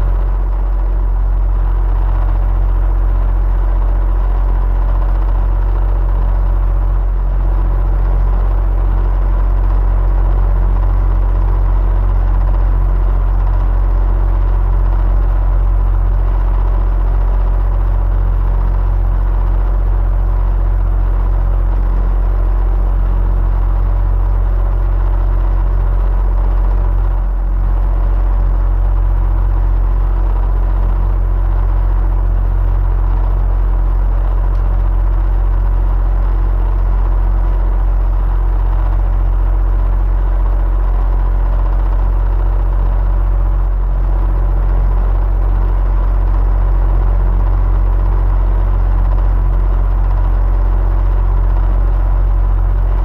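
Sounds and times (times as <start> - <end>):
electric fan humming: 0.0 - 50.3, 51.3 - 53.0.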